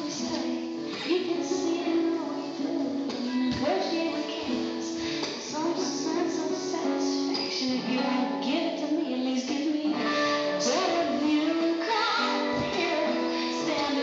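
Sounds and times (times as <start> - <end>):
person singing: 0.0 - 14.0
plucked guitar: 0.0 - 14.0.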